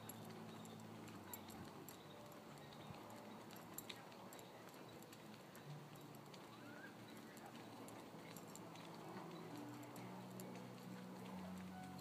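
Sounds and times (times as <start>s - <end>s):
light ticks: 0.0s - 12.0s.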